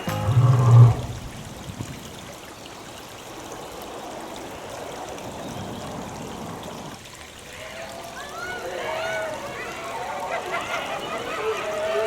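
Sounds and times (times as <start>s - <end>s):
trickling water: 0.0s - 12.0s.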